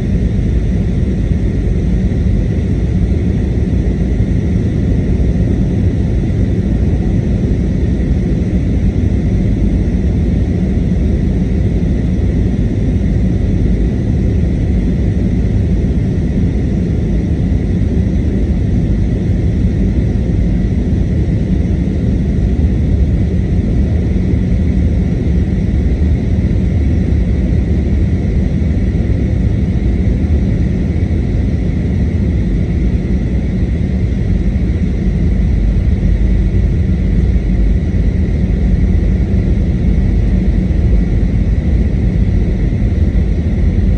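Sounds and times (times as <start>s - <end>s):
engine and airflow rumble: 0.0s - 43.9s.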